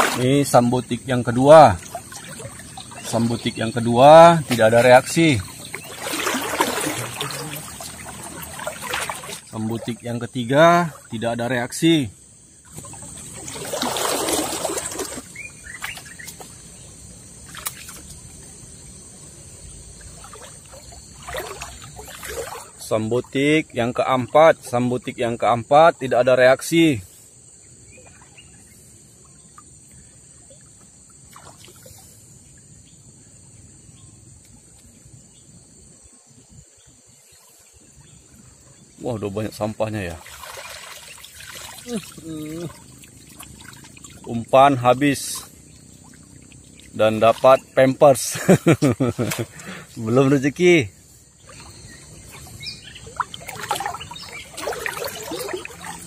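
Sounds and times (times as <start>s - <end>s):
river water sloshing: 0.0s - 24.8s, 27.0s - 33.1s, 33.7s - 56.0s
high insect drone: 0.0s - 56.0s.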